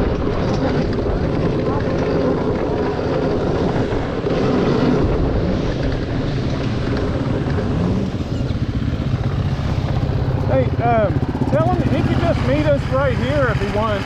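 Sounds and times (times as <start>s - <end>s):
wind buffeting microphone: 0.0s - 14.0s
dirt bike engine revving: 0.1s - 14.0s.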